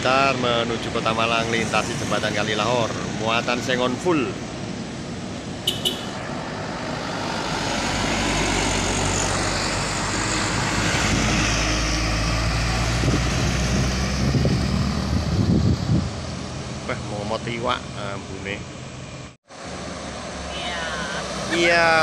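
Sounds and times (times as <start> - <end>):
truck tyre and road noise: 0.0 - 22.0.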